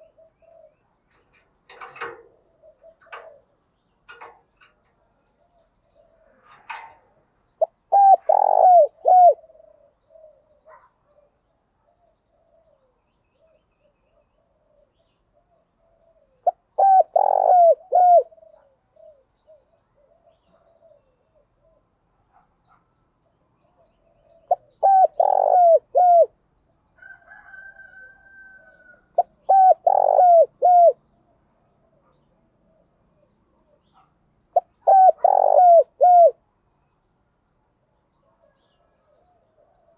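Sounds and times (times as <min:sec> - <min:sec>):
dove cooing: 0:00.0 - 0:07.0, 0:07.6 - 0:22.0, 0:23.6 - 0:26.4, 0:27.1 - 0:36.4.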